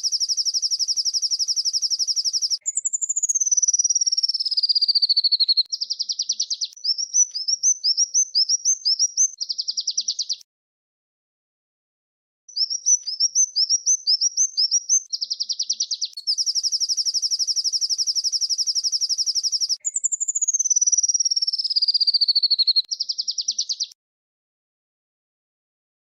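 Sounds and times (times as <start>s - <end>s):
songbird singing trills: 0.0s - 10.4s, 12.5s - 24.0s.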